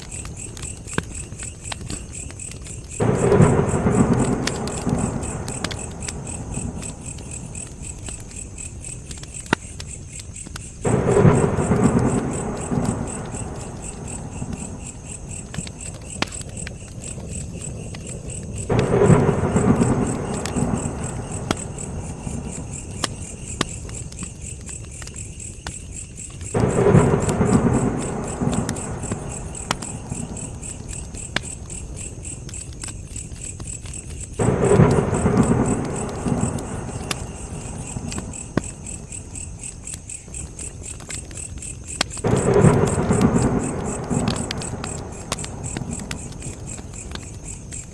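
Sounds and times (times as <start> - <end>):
crickets chirping: 0.0 - 47.9
wood fire crackling: 0.0 - 47.9.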